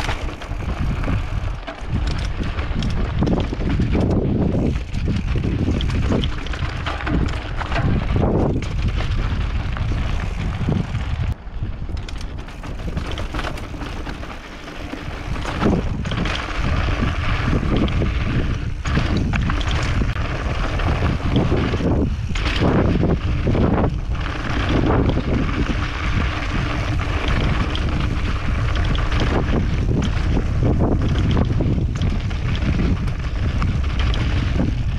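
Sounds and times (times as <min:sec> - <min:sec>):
bike knocking and rattling: 0:00.0 - 0:34.9
tyres on dirt: 0:00.0 - 0:34.9
wind buffeting microphone: 0:00.0 - 0:34.9.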